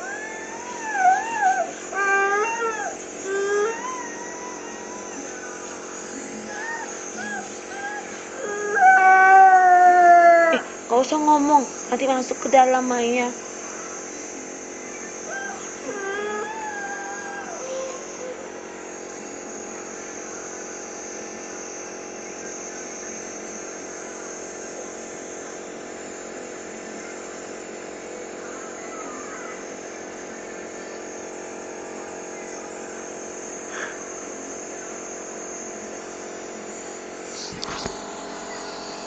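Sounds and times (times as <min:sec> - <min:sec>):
nebulizer humming and hissing: 0:00.0 - 0:39.0.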